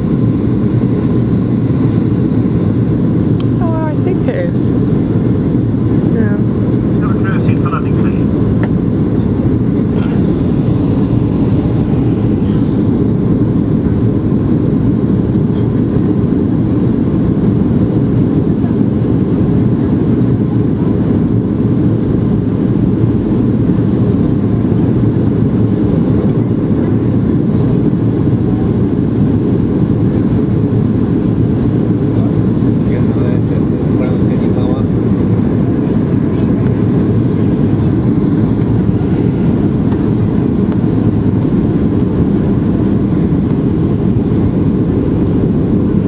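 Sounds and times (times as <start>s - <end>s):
airplane cabin rumble: 0.0s - 46.0s.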